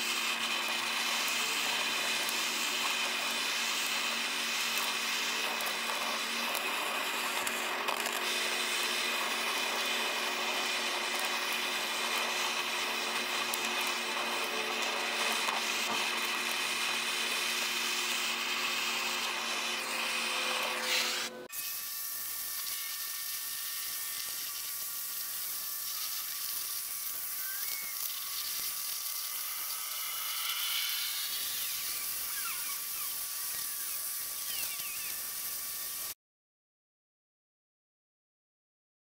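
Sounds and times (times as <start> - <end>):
blow torch hissing: 0.0 - 19.9, 23.8 - 36.2.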